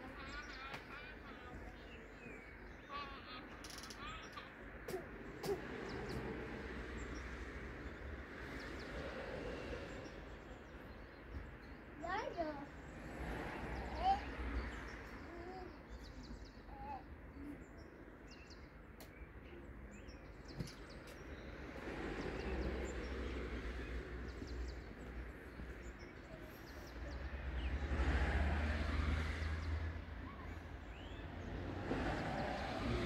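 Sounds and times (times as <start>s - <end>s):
small birds chirping: 0.0s - 27.9s, 29.0s - 31.6s
distant traffic rumble: 0.0s - 33.0s.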